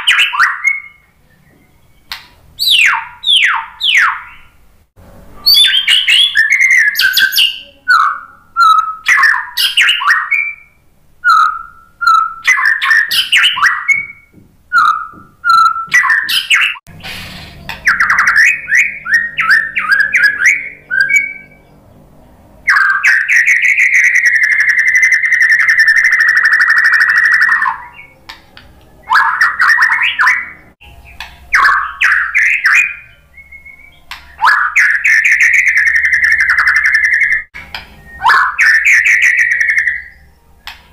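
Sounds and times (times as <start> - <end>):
bird singing whistled phrases: 0.0 - 4.6, 5.4 - 21.7, 22.7 - 28.4, 29.0 - 40.7.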